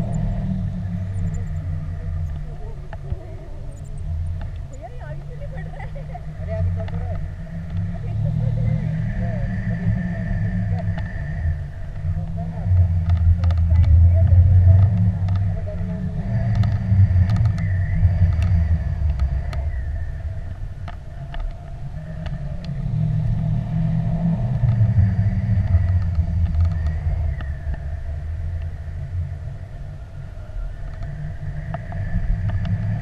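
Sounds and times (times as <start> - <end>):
faint clicks: 0.0 - 8.0, 10.7 - 23.6, 24.4 - 29.0, 30.4 - 33.0
wind buffeting microphone: 0.0 - 33.0.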